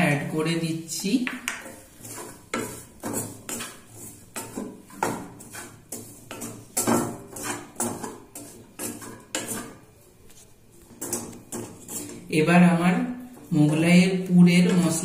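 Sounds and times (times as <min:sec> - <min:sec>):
wooden spatula scraping metal pan: 0:01.0 - 0:15.0.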